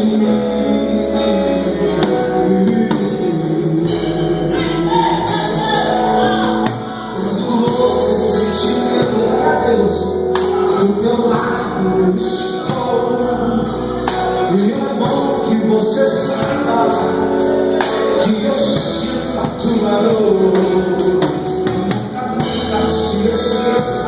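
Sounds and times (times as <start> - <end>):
bass and keyboard: 0.0 - 24.0.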